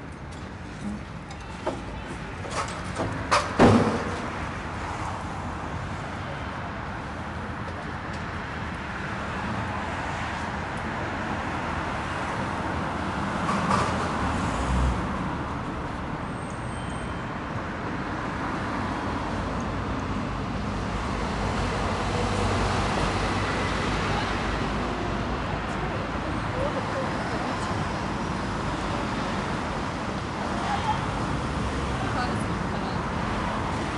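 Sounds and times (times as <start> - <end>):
cars passing: 0.0 - 33.9
low traffic rumble: 0.0 - 33.9.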